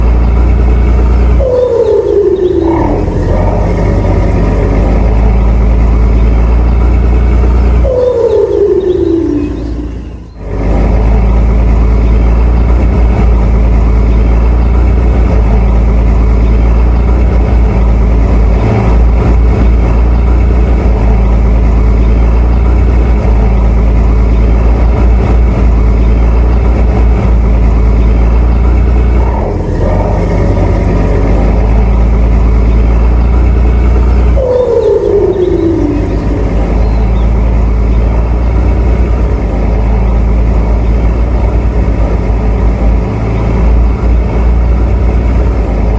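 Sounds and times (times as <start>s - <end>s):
diesel engine low drone: 0.0s - 45.9s.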